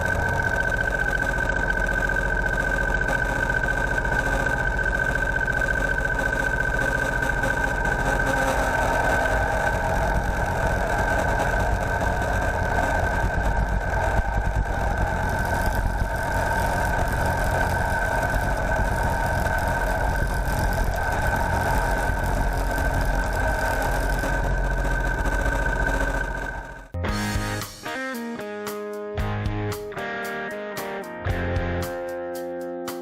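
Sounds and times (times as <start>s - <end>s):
tractor diesel engine running: 0.0s - 27.6s
high whine: 0.0s - 33.0s.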